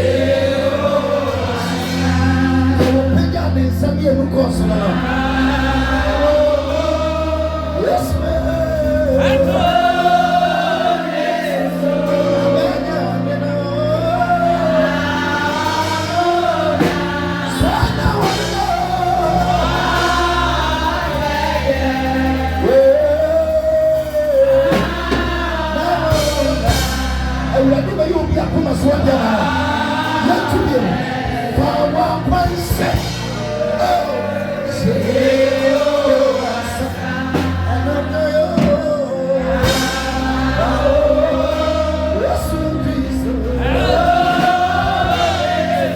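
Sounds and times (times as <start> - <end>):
choir singing: 0.0 - 45.9
instrumental backing: 0.0 - 45.9.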